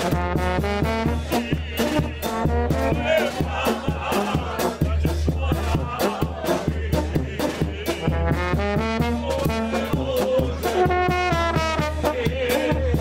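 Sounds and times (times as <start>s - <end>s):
brass band playing: 0.0s - 13.0s
steady drum beat: 0.0s - 13.0s.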